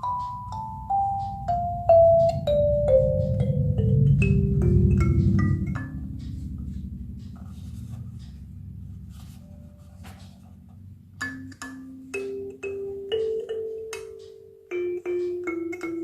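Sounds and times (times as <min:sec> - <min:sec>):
kalimba notes plucked: 0:00.0 - 0:10.4, 0:11.0 - 0:16.0.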